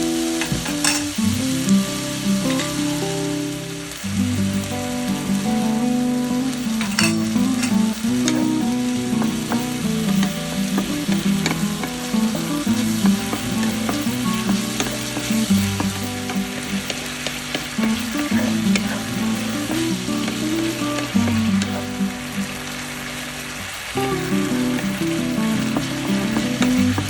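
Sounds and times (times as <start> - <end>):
background music with low notes: 0.0 - 27.0
food sizzling in a pan: 0.0 - 27.0.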